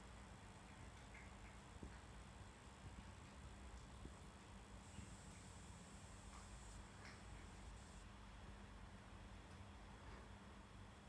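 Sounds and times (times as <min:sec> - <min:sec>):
faint background hum and hiss: 0:00.0 - 0:11.0.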